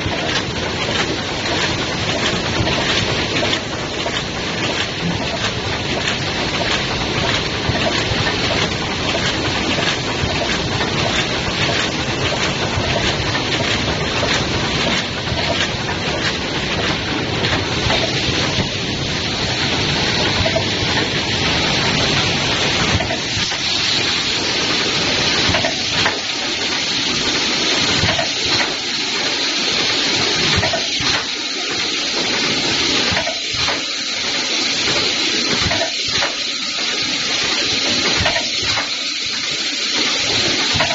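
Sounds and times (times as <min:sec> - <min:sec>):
mechanism clicks and knocks: 0:00.0 - 0:40.9
packing machine running: 0:00.0 - 0:40.9.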